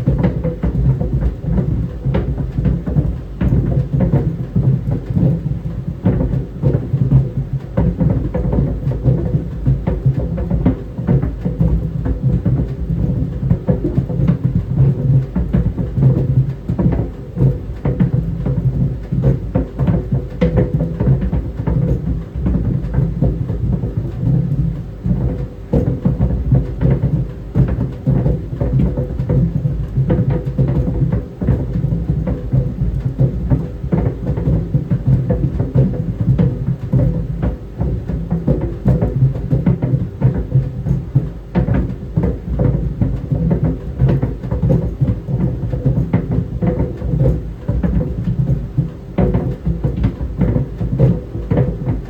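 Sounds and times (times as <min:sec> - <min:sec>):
balls thudding in dryer drum: 0:00.0 - 0:52.0.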